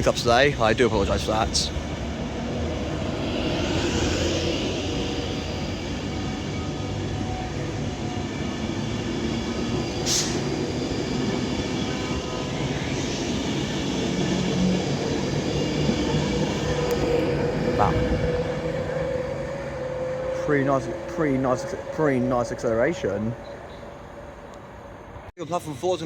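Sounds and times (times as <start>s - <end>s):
electric train accelerating: 0.0s - 25.3s.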